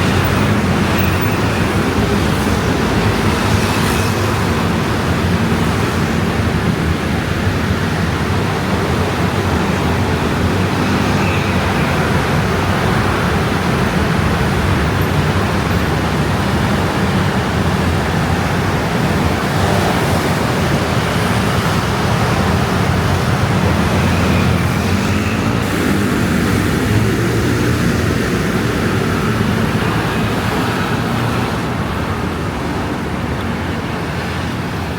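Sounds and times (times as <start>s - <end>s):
scooter traffic drone: 0.0s - 34.9s.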